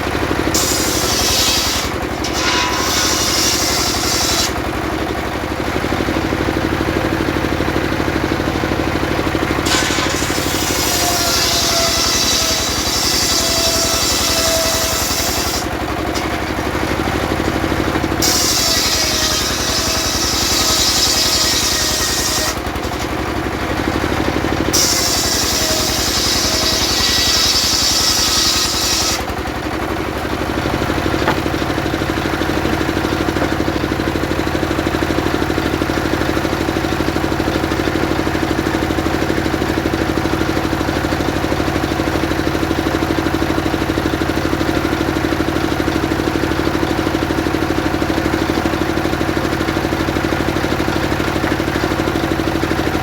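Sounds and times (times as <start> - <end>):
engine running: 0.0 - 10.8, 11.4 - 24.8, 25.7 - 53.0
circular saw cutting wood: 0.0 - 43.8, 50.6 - 53.0.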